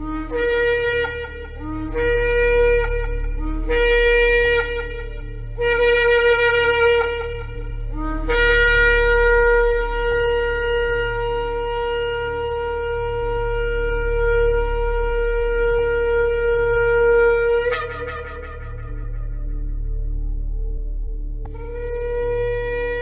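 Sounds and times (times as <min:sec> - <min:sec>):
ram's horn blasts: 0:00.0 - 0:20.2
low steady hum: 0:00.0 - 0:23.0.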